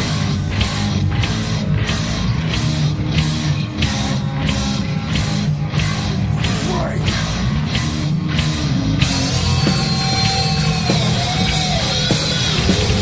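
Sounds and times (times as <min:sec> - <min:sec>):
distorted guitar and bass riffing: 0:00.0 - 0:13.0
drums: 0:00.0 - 0:13.0
held bending guitar notes: 0:00.0 - 0:13.0.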